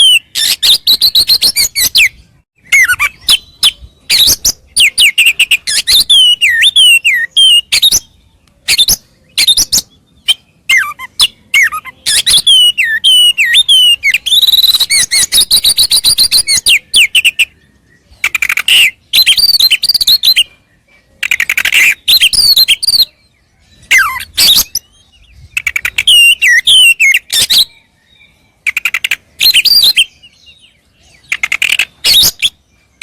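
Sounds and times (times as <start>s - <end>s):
songbird singing clicks and whistles: 0.0s - 33.0s.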